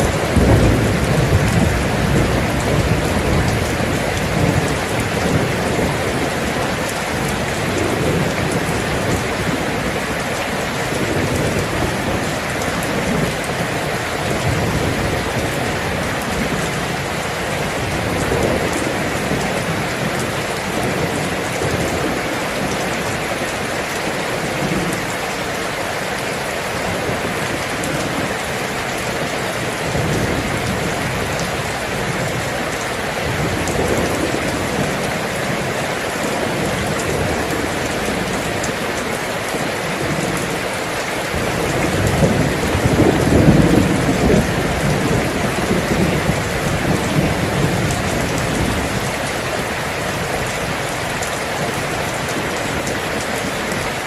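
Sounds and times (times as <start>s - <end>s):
dense rain: 0.0s - 54.0s.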